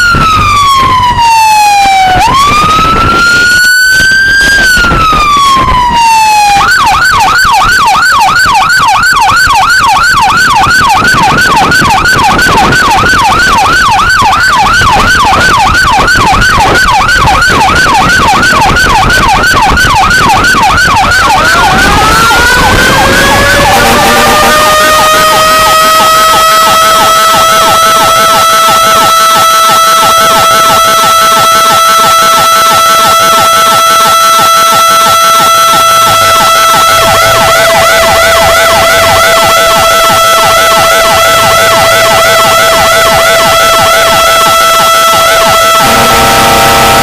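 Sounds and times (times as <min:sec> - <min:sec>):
fire truck siren: 0:00.0 - 0:47.0.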